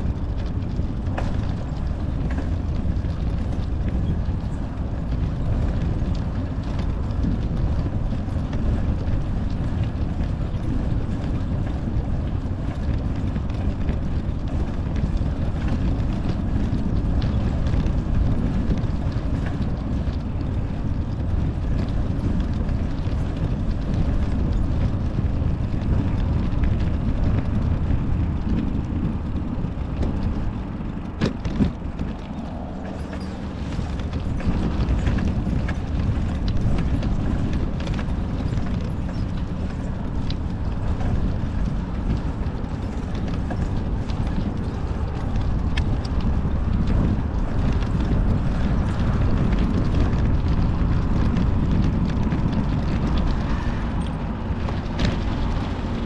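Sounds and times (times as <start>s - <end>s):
bicycle rolling on pavement: 0.0s - 56.0s
bike knocking over rail tracks: 0.0s - 56.0s
wind buffeting microphone: 0.0s - 56.0s.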